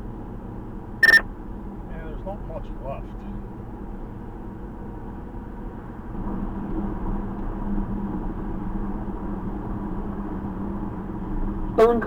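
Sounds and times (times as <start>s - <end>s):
engine and road noise: 0.0s - 12.0s.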